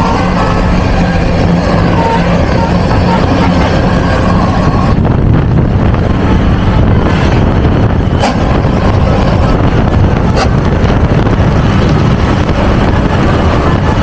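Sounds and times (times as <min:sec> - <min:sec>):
vehicle road noise: 0:00.0 - 0:14.0
wind buffeting microphone: 0:00.0 - 0:14.0.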